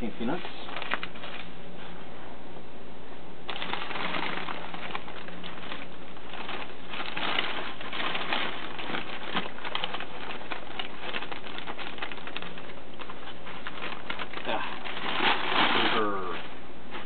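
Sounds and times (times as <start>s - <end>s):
packing peanuts shifting: 0.0s - 1.5s, 3.5s - 17.0s
packing paper rustling: 0.0s - 1.9s, 3.5s - 17.0s.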